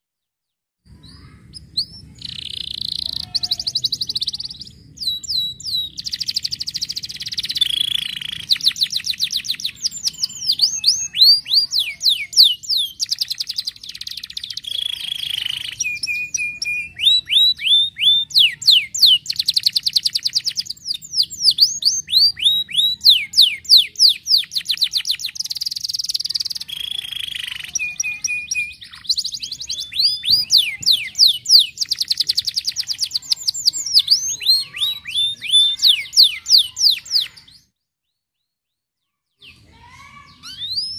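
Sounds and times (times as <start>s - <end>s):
canary singing trills: 0.9s - 40.9s.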